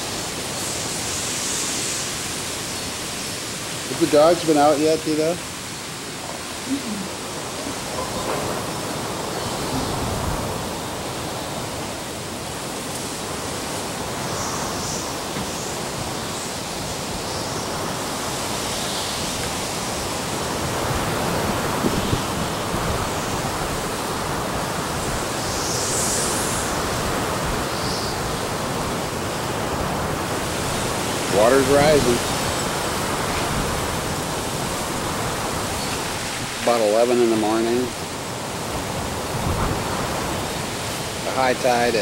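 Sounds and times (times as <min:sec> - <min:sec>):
strong wind through trees: 0:00.0 - 0:42.0.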